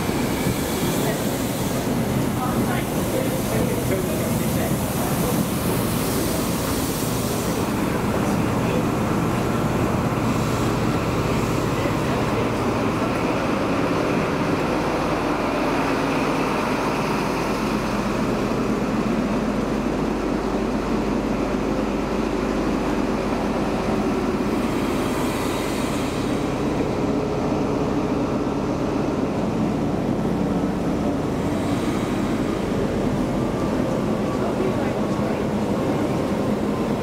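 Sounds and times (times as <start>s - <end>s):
diesel train running: 0.0s - 37.0s.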